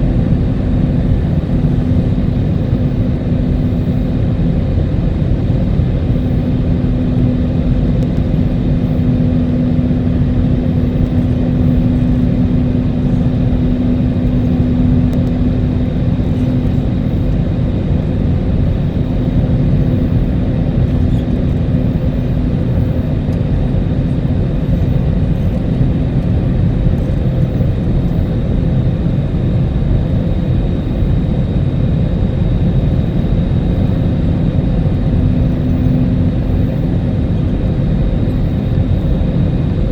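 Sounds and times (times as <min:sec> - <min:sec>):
airplane cabin rumble: 0:00.0 - 0:39.9
steady engine hum: 0:00.0 - 0:39.9.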